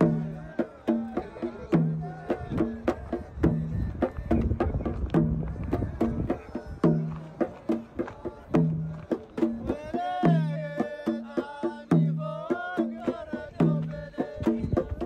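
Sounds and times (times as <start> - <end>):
drum rhythm: 0.0 - 15.0.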